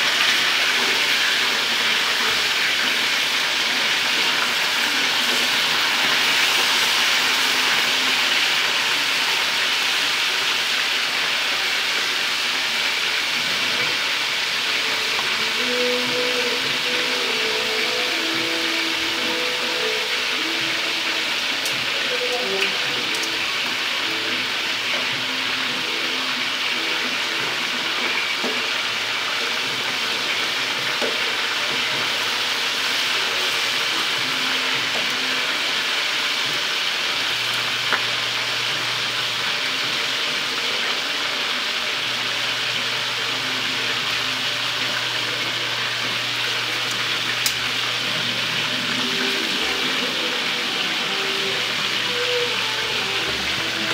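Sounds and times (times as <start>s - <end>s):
chicken sizzling in hot oil: 0.0s - 53.9s.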